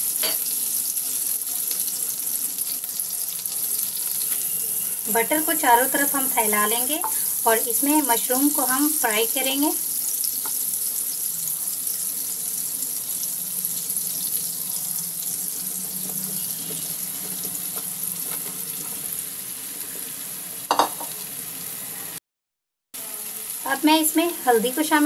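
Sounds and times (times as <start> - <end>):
butter sizzling in a pan: 0.0 - 22.2, 23.0 - 25.0.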